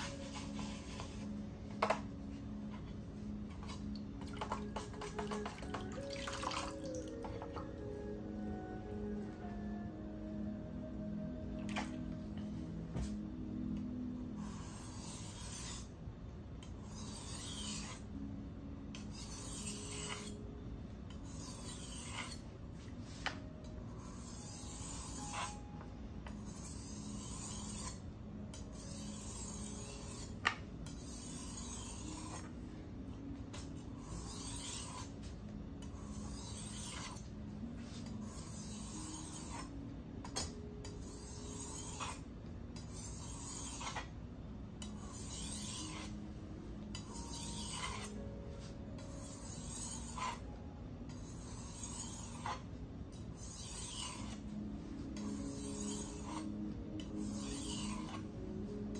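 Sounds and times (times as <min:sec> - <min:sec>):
knife scraping on whetstone: 0:00.0 - 0:07.5, 0:14.3 - 0:16.0, 0:16.6 - 0:18.2, 0:18.9 - 0:20.5, 0:21.1 - 0:32.6, 0:33.6 - 0:44.2, 0:44.8 - 0:46.3, 0:46.9 - 0:58.8.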